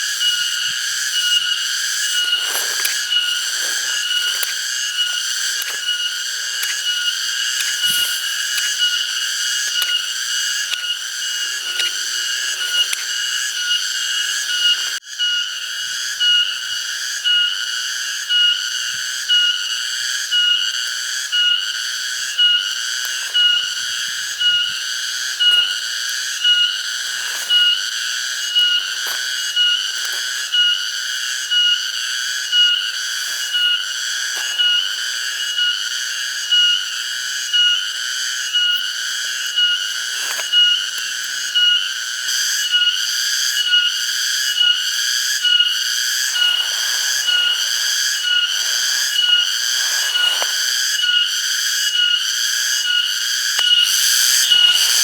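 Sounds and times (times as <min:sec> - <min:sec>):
cicadas buzzing: 0:00.0 - 0:55.0.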